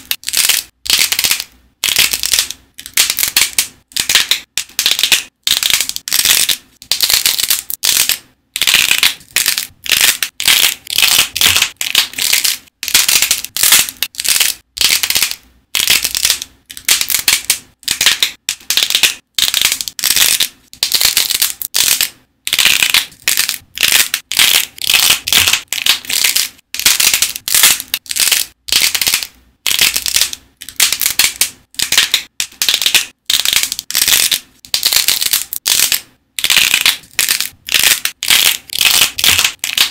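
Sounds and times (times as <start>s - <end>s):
clay shell crackling and crunching: 0.0s - 39.9s.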